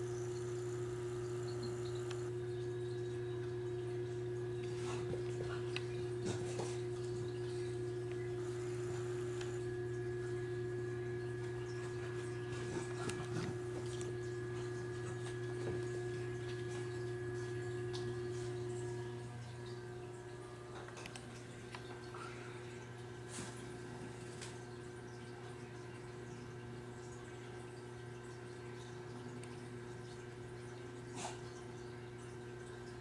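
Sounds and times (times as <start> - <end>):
steady hum: 0.0 - 30.2.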